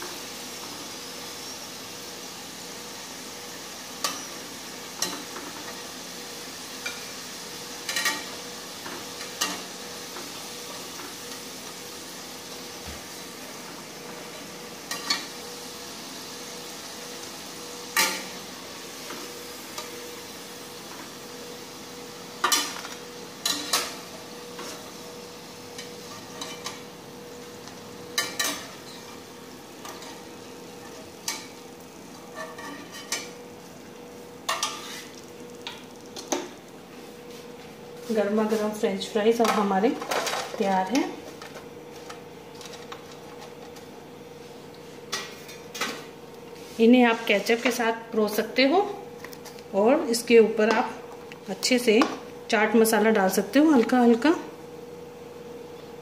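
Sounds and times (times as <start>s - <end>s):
fries sizzling in oil: 0.0s - 56.0s.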